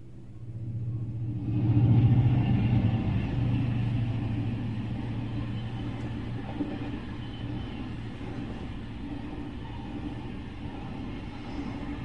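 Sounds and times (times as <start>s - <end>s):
locomotive engine rumble: 0.0s - 9.7s.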